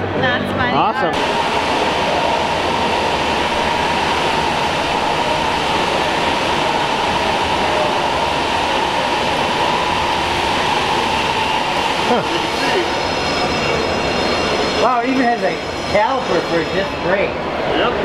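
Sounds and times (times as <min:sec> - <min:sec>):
constant rushing noise: 0:01.1 - 0:18.0.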